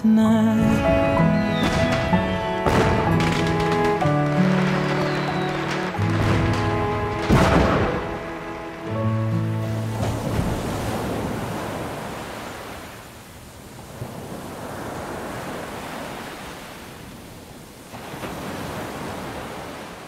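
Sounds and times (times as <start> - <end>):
sea waves washing onto shore: 0.6 - 20.0.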